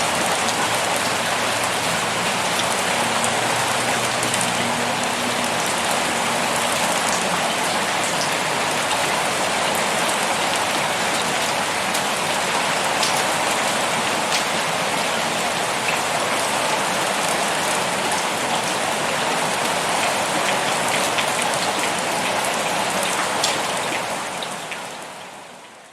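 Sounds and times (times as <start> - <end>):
pouring rain hiss: 0.0 - 25.7.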